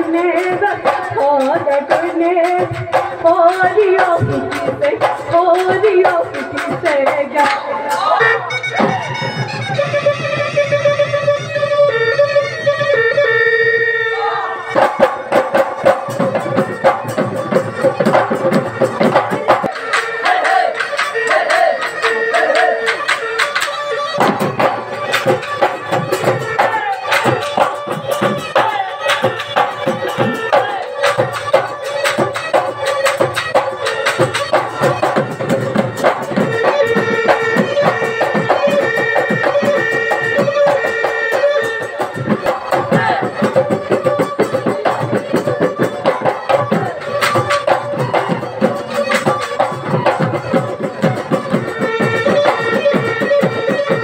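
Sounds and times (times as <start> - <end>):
drums played in fast strokes: 0.0 - 13.2, 14.7 - 54.0
held melody line: 0.0 - 54.0.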